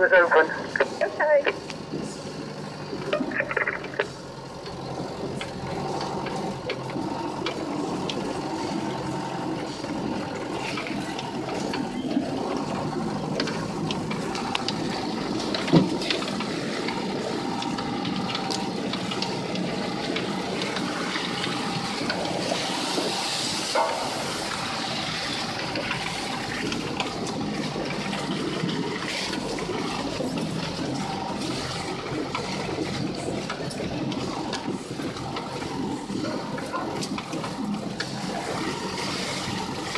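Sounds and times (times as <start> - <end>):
off-road vehicle driving: 0.0 - 39.9.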